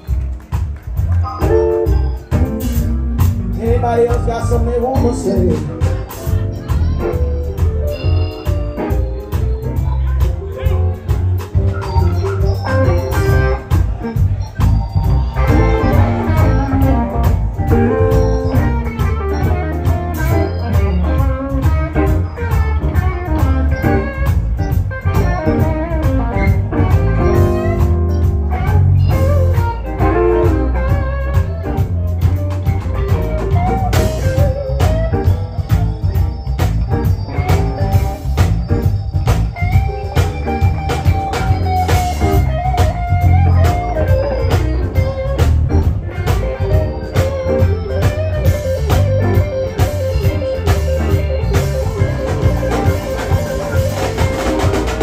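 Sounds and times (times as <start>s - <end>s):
bass and drums: 0.0s - 55.0s
electric guitar lines: 0.0s - 55.0s.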